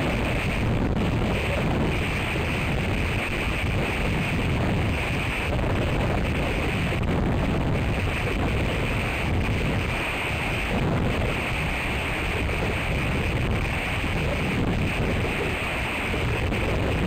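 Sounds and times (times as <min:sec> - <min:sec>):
wind buffeting microphone: 0:00.0 - 0:17.0
wind through pine boughs: 0:00.0 - 0:17.0.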